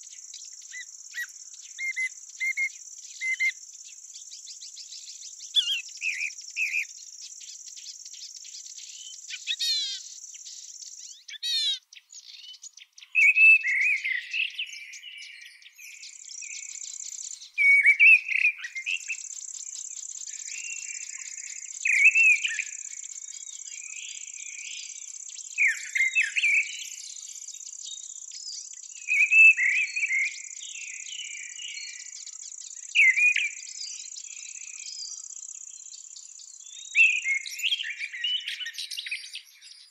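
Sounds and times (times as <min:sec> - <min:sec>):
insects trilling: 0:00.0 - 0:11.4, 0:15.8 - 0:39.1
songbird singing: 0:00.0 - 0:39.9.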